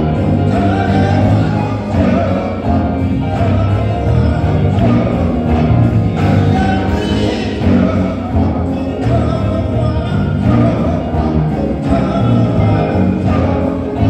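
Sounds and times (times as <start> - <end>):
band playing gospel music: 0.0 - 14.0.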